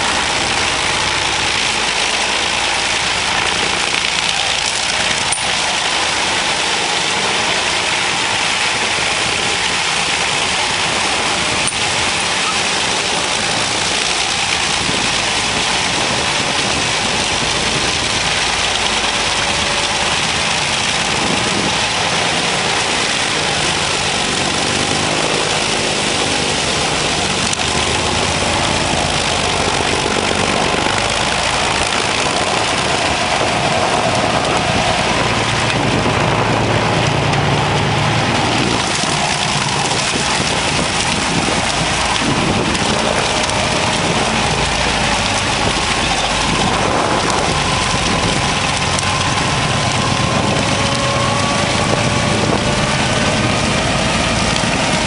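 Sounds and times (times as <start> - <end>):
forestry mulcher grinding: 0.0 - 55.0
tractor engine under heavy load: 0.0 - 55.0.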